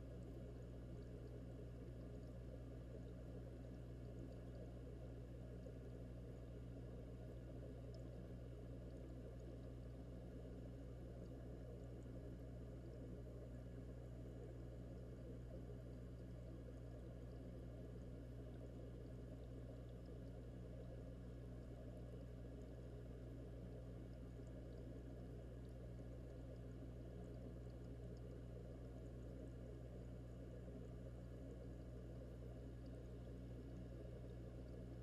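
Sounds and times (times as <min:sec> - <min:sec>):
faint low hum: 0:00.0 - 0:35.0
muffled underwater bubbling: 0:00.0 - 0:35.0.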